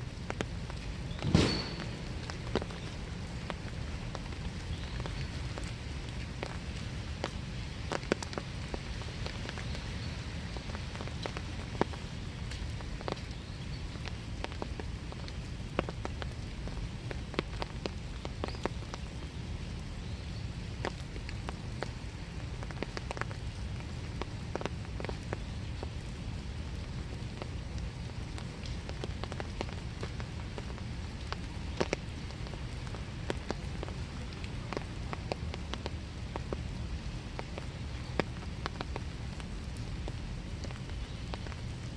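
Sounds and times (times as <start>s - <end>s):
steady rain falling: 0.0s - 41.9s
water drips striking: 0.1s - 19.9s, 20.7s - 41.9s.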